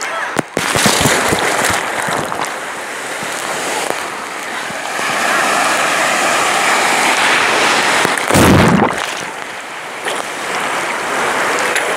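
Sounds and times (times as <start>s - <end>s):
sea surf washing and breaking: 0.0s - 11.9s
wave splashing on microphone: 0.5s - 11.9s.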